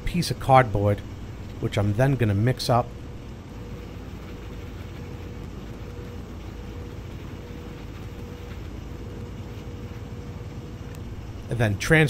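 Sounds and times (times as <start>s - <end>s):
faint steady whine: 0.0s - 12.0s
room noise hum and hiss: 0.0s - 12.0s.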